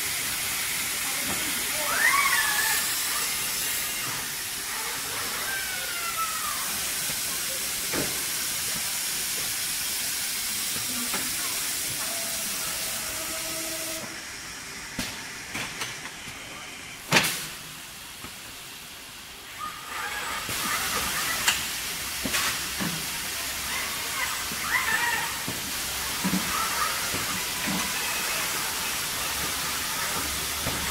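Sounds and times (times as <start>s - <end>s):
air hiss: 0.0s - 30.9s.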